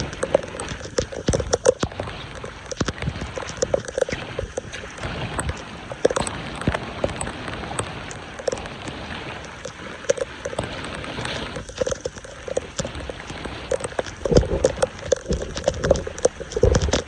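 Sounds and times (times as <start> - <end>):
sharp knocks and clicks: 0.0 - 8.6, 9.6 - 17.0
running splashing water: 0.0 - 17.0.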